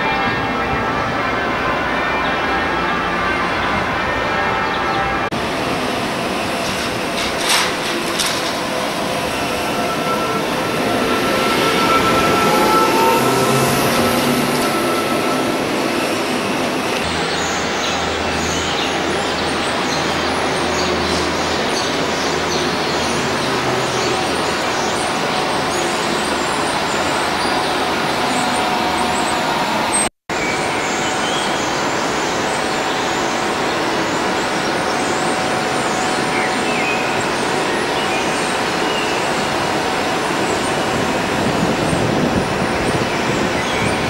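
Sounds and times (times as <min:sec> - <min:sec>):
traffic noise: 0:00.0 - 0:44.0.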